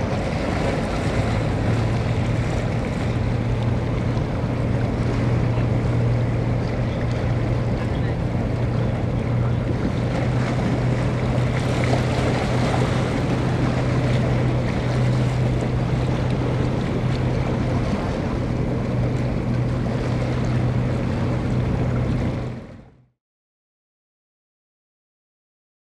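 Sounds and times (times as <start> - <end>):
water washing: 0.0 - 22.8
boat engine hum: 0.0 - 23.2.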